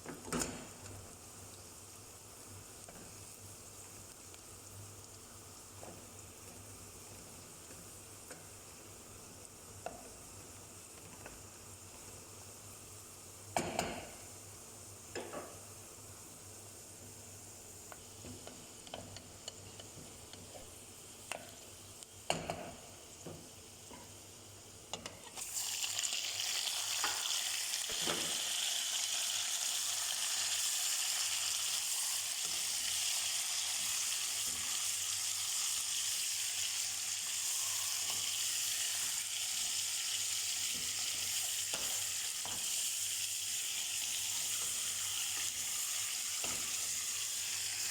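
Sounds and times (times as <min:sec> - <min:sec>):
food sizzling in hot oil: 0:00.0 - 0:47.9.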